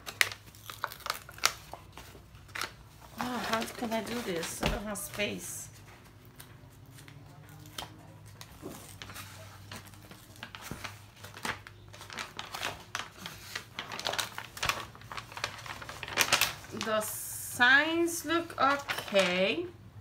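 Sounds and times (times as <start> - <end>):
plastic film and paper crinkling: 0.0 - 17.2, 18.0 - 19.7.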